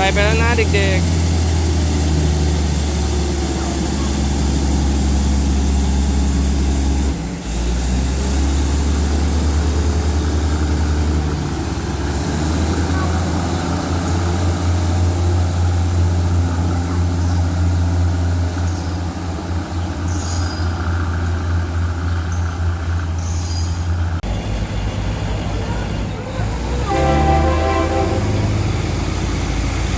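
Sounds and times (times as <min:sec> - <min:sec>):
diesel locomotive engine humming: 0:00.0 - 0:29.9.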